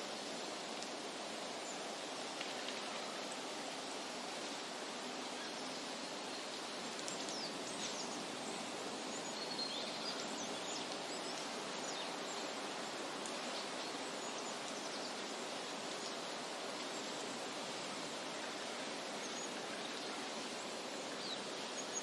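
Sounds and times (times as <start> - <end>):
steady outdoor noise: 0.0 - 22.0.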